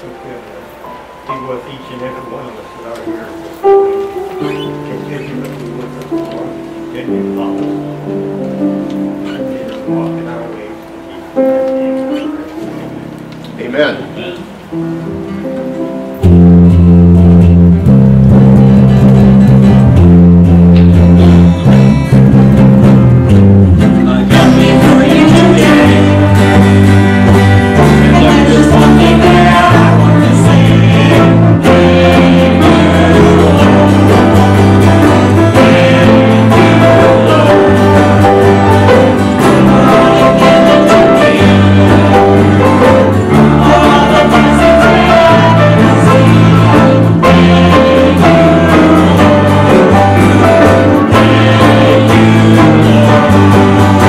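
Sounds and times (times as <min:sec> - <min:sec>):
band with guitar and bass: 0:00.0 - 0:54.0.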